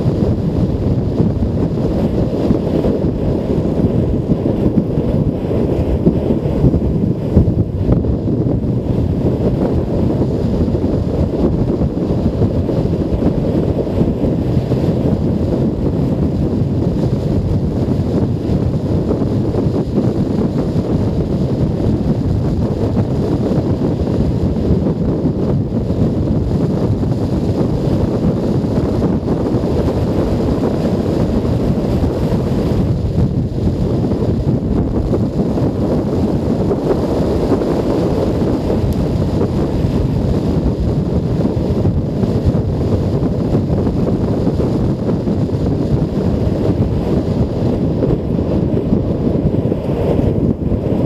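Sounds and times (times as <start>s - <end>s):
road noise: 0.0s - 51.0s
wind buffeting microphone: 0.0s - 51.0s.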